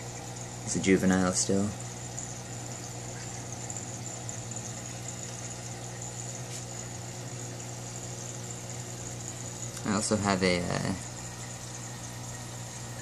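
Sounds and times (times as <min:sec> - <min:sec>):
aquarium filter motor hum: 0:00.0 - 0:13.0.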